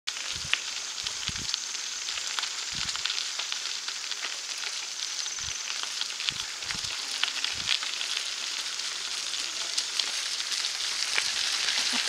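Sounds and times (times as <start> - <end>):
bicycle tyres crunching on gravel: 0.1 - 12.0.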